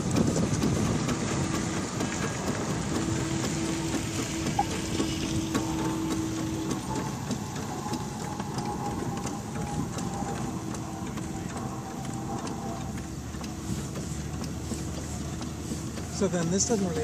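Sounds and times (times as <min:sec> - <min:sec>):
steam engine clattering: 0:00.0 - 0:17.0.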